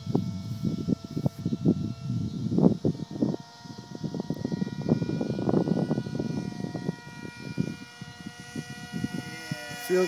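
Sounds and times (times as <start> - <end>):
model plane motor whining: 0.0 - 10.0.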